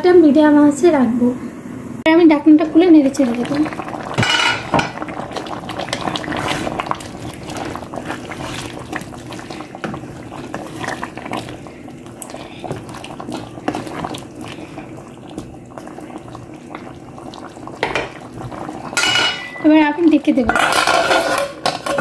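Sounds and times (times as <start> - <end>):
curry boiling in a pot: 2.2 - 22.0.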